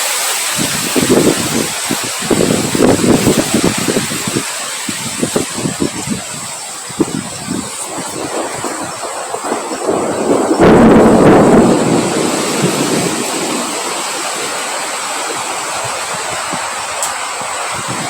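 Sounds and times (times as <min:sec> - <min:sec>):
strong wind blowing: 0:00.4 - 0:18.0.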